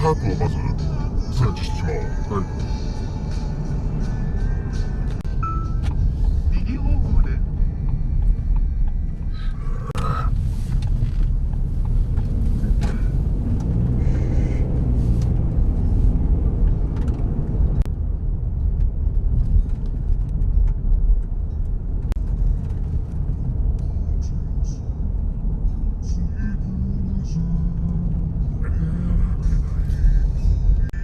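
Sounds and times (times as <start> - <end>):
car road noise from inside: 0.0 - 31.0.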